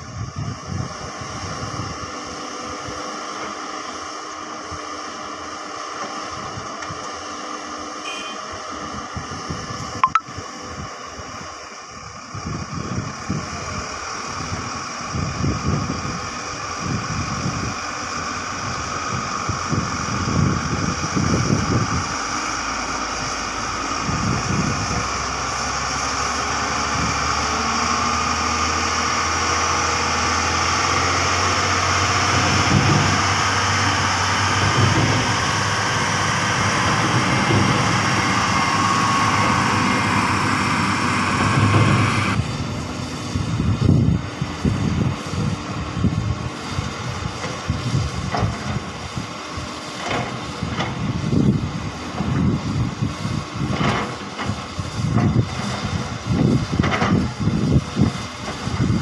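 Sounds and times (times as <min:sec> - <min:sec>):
diesel engines humming: 0:00.0 - 0:59.0.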